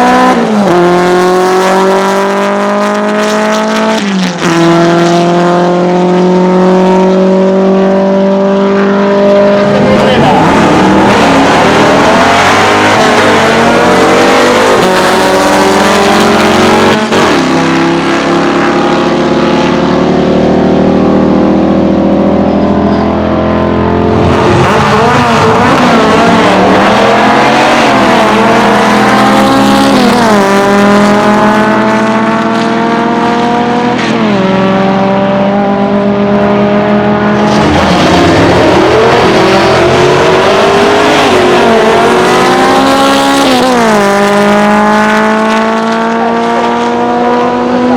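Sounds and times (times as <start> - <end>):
drag car engines at full throttle: 0.0 - 47.9.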